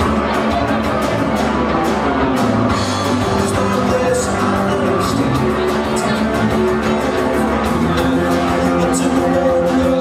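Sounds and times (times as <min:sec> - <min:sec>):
bass guitar: 0:00.0 - 0:10.0
drum kit beat: 0:00.0 - 0:10.0
electric guitar: 0:00.0 - 0:10.0.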